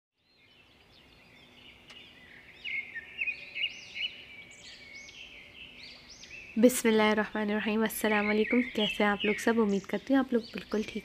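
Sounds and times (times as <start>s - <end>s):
birds chirping: 0.2s - 11.0s.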